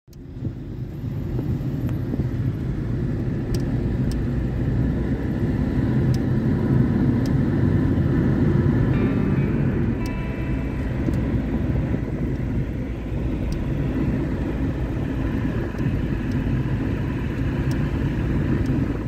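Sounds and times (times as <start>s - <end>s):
vehicle rumbling in motion: 0.1s - 19.0s.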